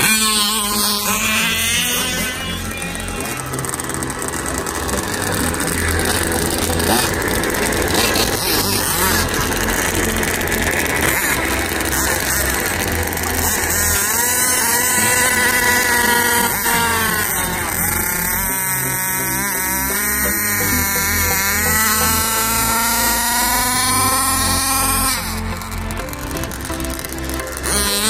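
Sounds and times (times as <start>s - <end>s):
model car motor whine: 0.0s - 28.0s
steady noisy background: 0.0s - 28.0s.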